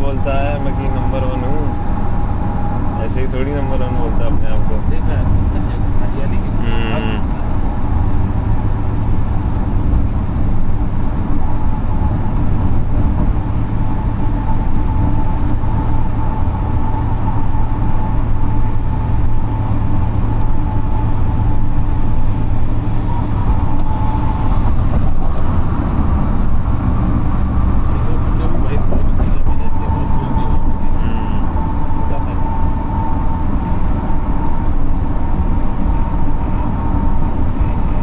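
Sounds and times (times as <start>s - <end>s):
faint steady whine: 0.0s - 38.0s
tyre and engine rumble: 0.0s - 38.0s.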